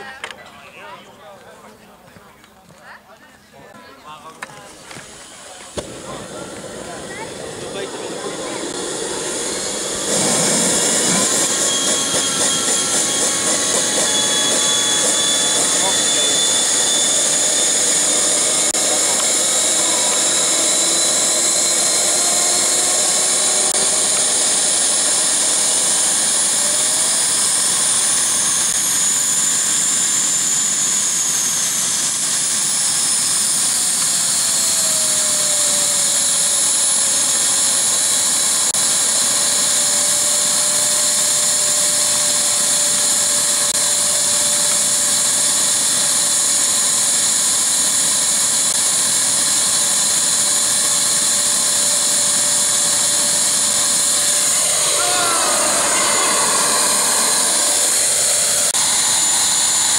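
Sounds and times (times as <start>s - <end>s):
model jet turbine whining: 4.1s - 59.9s.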